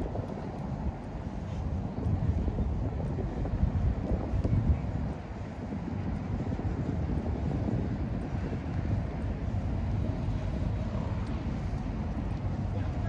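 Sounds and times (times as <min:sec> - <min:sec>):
low diesel engine drone: 0:00.0 - 0:13.0.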